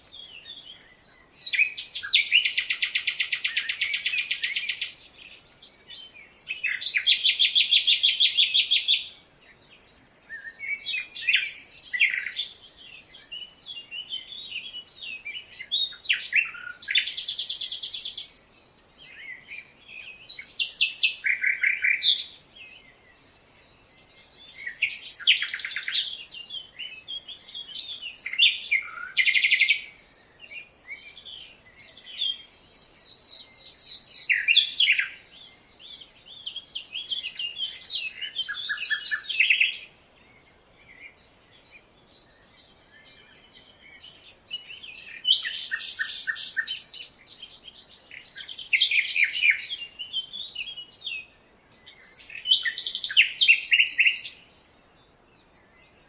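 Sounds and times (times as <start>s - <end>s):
birds singing and trilling: 0.0s - 56.0s.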